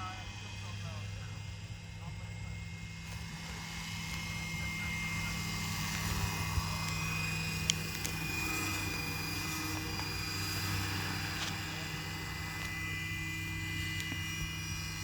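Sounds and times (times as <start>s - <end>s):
model helicopter whine: 0.0s - 15.0s.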